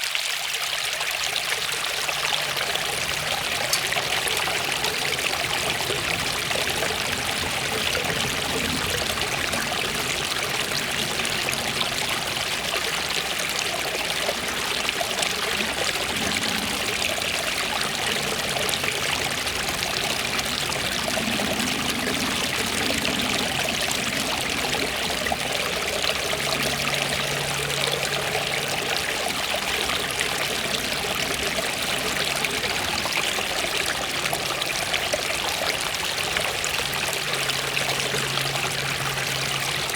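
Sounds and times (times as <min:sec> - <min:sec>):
waterfall splashing and rushing: 0:01.5 - 0:39.9.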